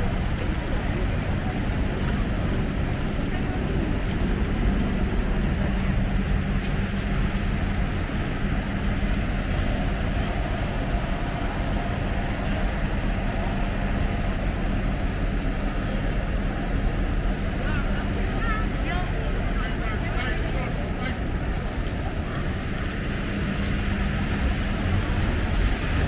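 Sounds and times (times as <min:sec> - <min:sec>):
city street traffic rumble: 0:00.0 - 0:26.0
vehicle engines idling: 0:00.0 - 0:26.0.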